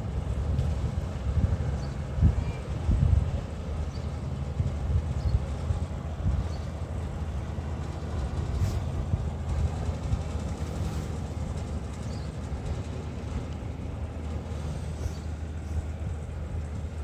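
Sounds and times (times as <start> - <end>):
diesel locomotive engine idling: 0.0 - 17.0.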